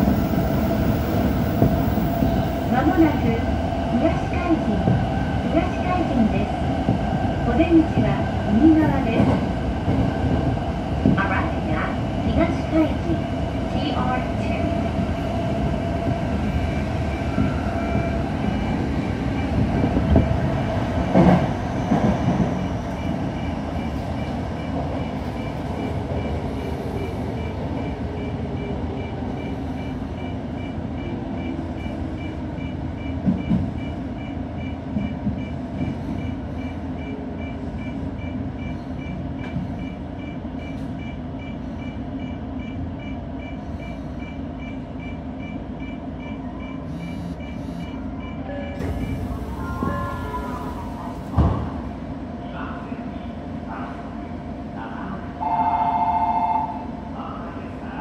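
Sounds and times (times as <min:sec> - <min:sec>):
train wheels rumbling on track: 0:00.0 - 0:52.5.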